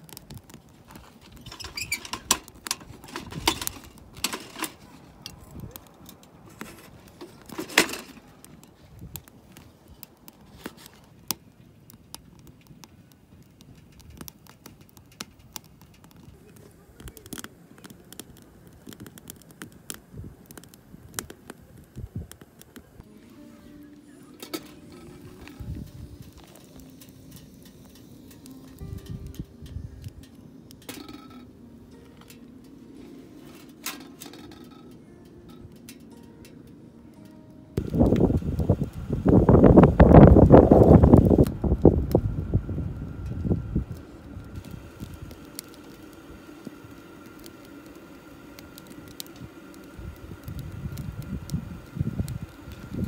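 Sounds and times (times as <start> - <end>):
firewood crackling and popping: 0.0 - 53.0.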